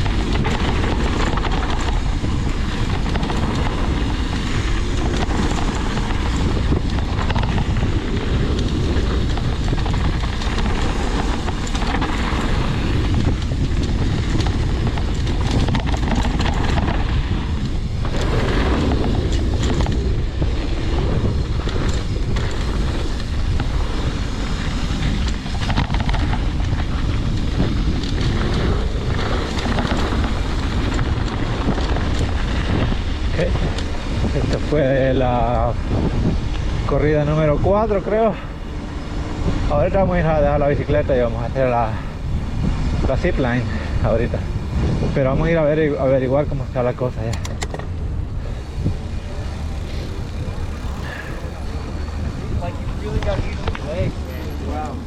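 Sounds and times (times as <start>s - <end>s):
bike rattling and knocking: 0.0s - 55.0s
wind on microphone: 0.0s - 55.0s.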